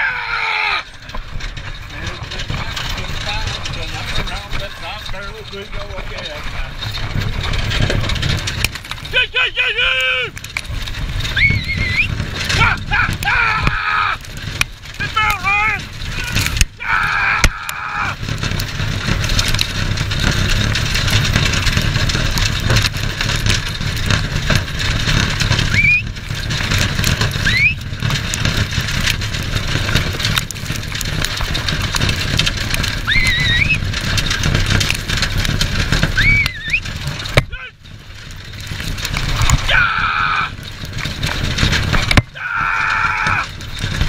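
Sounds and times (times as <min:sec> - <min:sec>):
rumble of hooves and wheels: 0:00.0 - 0:44.0
wind buffeting microphone: 0:00.8 - 0:44.0.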